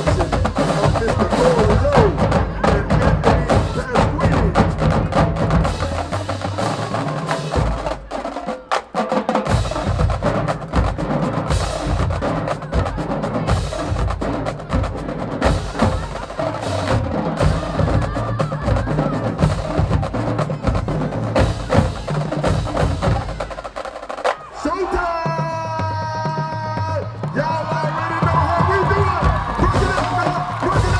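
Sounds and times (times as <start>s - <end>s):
snare drum strokes and rolls: 0.0s - 30.9s.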